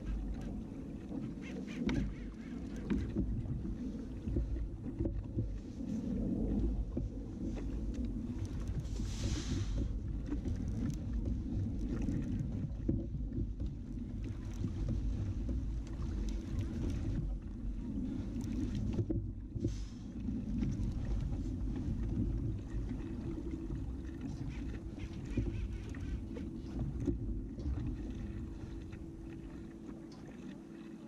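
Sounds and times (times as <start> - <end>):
muffled wind and water rumble: 0.0 - 31.0.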